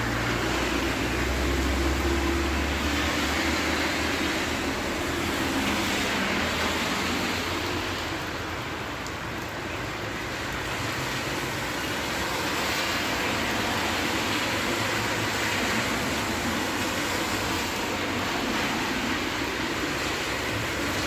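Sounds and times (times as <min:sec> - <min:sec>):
heavy rain rushing: 0:00.0 - 0:21.0.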